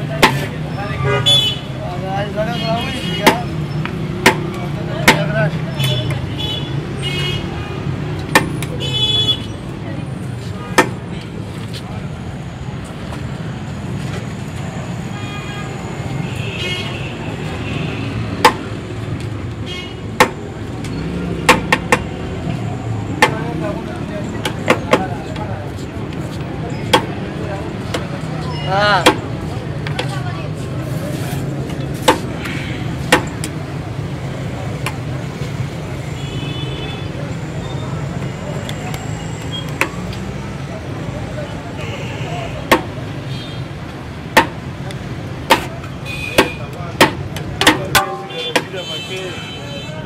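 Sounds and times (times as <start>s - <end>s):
street traffic rumbling: 0.0s - 50.0s.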